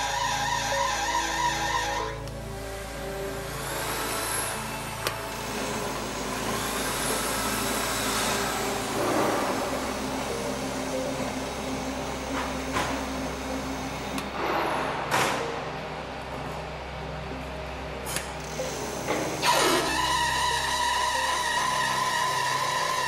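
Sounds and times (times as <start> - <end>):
lathe motor and gear hum: 0.0 - 23.0.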